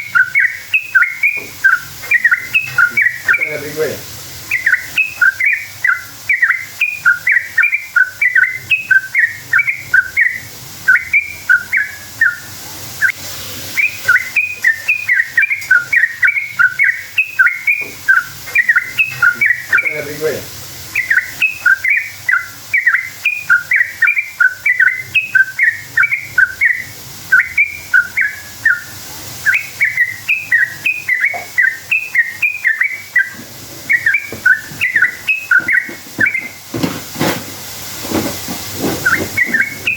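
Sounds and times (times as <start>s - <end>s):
bulbul singing chattering song: 0.0s - 36.8s, 39.0s - 39.9s.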